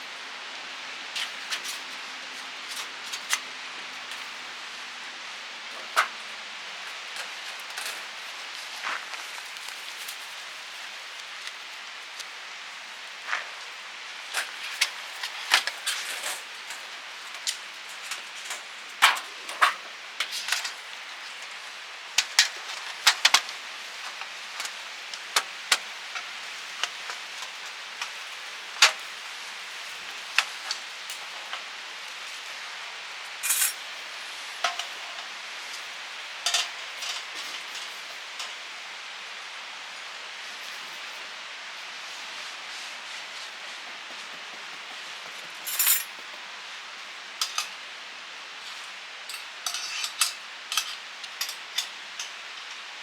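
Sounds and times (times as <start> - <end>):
steady hiss: 0.0 - 53.0.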